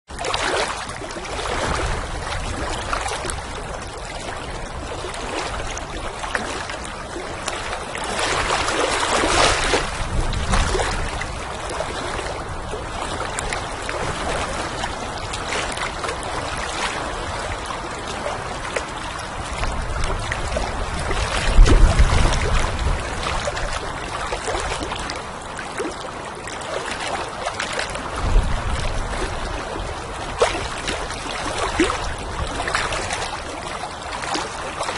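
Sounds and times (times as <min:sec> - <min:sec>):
water lapping and splashing: 0:00.0 - 0:34.9
wind rumbling on microphone: 0:00.1 - 0:34.9.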